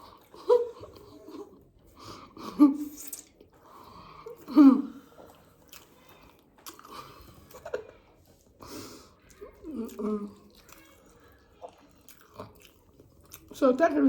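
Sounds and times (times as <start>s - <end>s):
person chewing and smacking: 0.0s - 13.9s.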